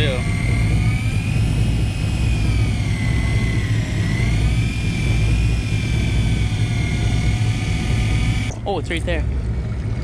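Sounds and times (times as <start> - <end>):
electric fishing reel motor whine: 0.0 - 8.5
boat engines rumbling: 0.0 - 10.0.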